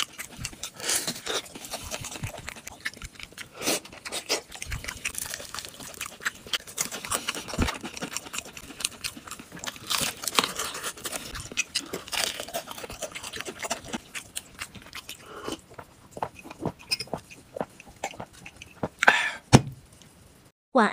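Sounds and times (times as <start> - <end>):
crunching crisp snack: 0.0 - 18.8.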